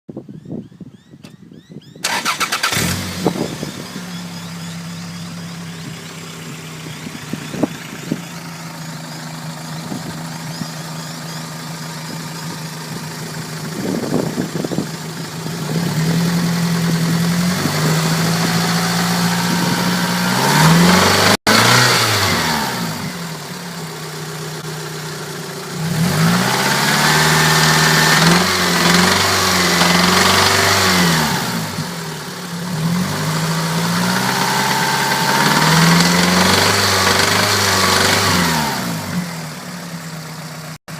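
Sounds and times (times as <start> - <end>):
car engine idling and revving: 1.2 - 40.9
engine rattling noise: 2.0 - 40.9.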